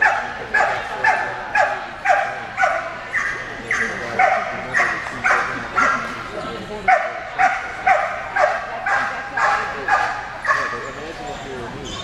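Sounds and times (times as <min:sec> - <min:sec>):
dog barking: 0:00.0 - 0:06.1, 0:06.9 - 0:10.9.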